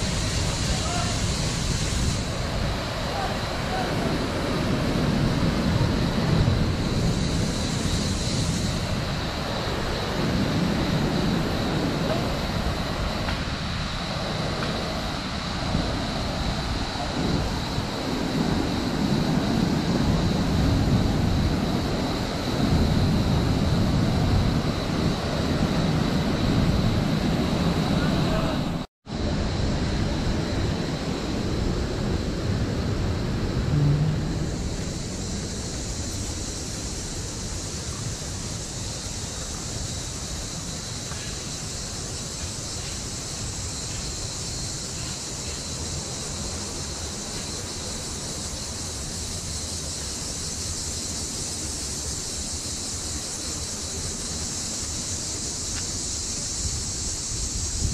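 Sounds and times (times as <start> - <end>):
high-pitched hiss: 0.0 - 57.9
river rushing over rapids: 0.0 - 57.9.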